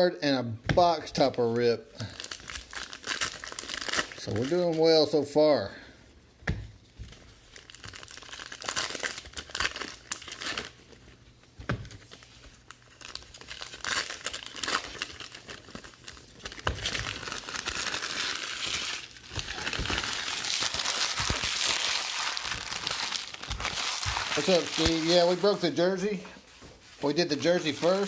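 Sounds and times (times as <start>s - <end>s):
foil wrappers crinkling and tearing: 1.0s - 5.9s, 7.1s - 11.2s, 11.8s - 28.0s.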